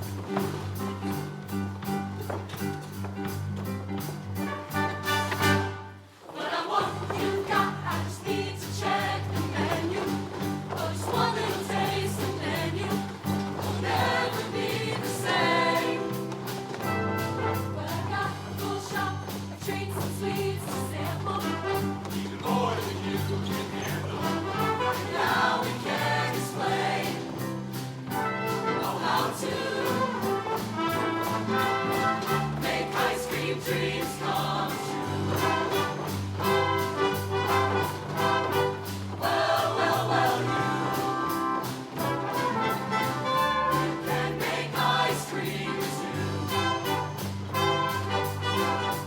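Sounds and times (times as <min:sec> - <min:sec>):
band with brass bass and drums: 0:00.0 - 0:49.0
choir singing: 0:05.1 - 0:16.6, 0:17.2 - 0:49.0.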